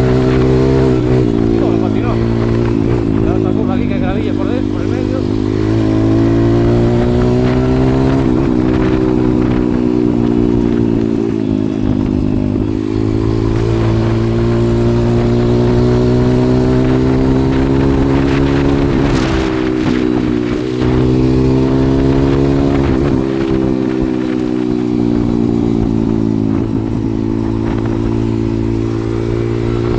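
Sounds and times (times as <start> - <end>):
motorbike engine running: 0.0 - 29.9.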